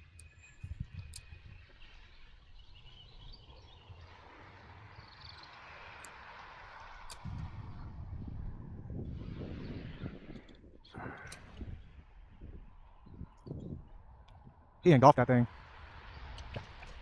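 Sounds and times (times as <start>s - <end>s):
faint bird chirps: 0.0s - 14.5s.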